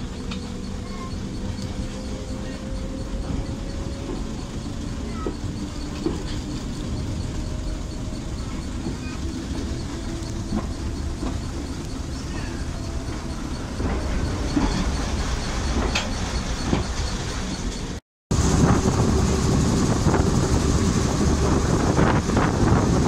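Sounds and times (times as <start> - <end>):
train ride rumble: 0.0 - 23.0.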